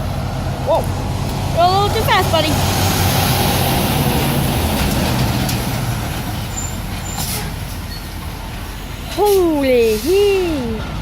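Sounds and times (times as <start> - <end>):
truck passing at speed: 0.0 - 11.0.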